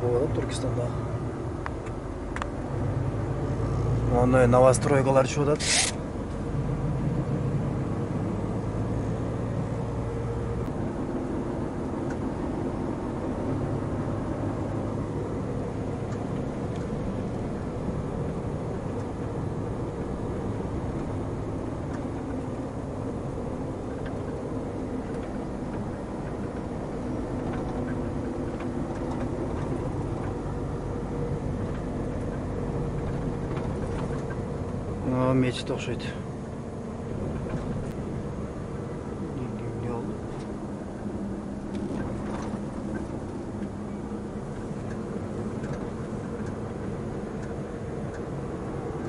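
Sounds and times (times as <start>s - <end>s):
road noise: 0.0s - 49.0s
truck engine drone: 0.0s - 49.0s.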